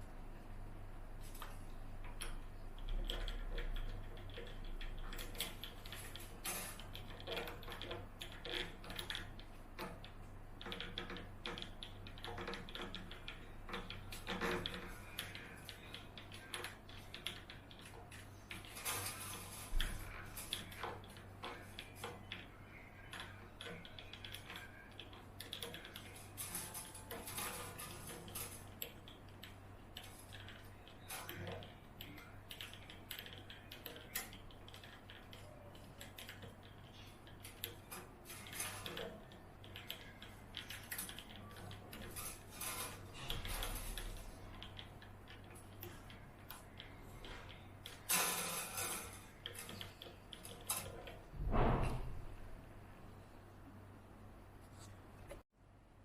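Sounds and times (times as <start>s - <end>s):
low electrical hum: 0.0s - 56.0s
objects clicking and rattling: 1.3s - 52.1s.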